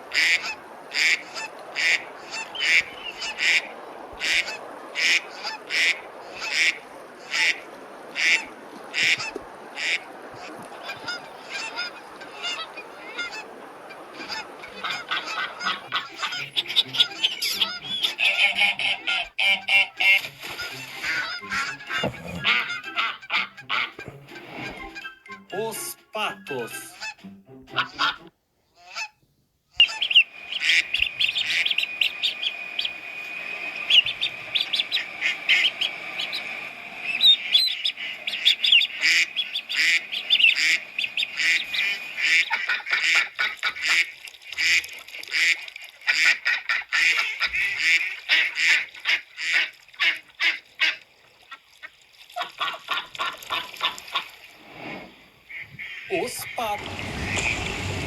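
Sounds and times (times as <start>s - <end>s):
geese and ducks honking: 0.0s - 29.2s, 29.8s - 54.4s, 55.5s - 58.0s.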